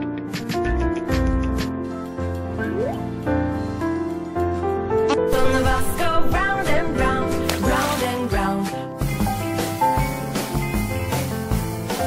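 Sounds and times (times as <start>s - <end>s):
background music with low beat: 0.0s - 12.0s.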